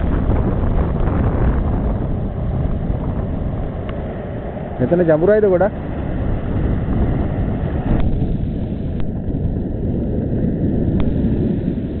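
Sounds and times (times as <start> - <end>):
sea waves roaring: 0.0 - 12.0.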